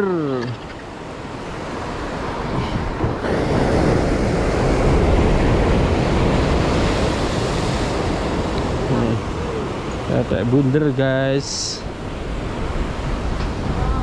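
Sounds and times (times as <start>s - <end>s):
wind on microphone: 0.0s - 10.4s, 11.8s - 14.0s
waves washing against breakwater: 0.0s - 14.0s.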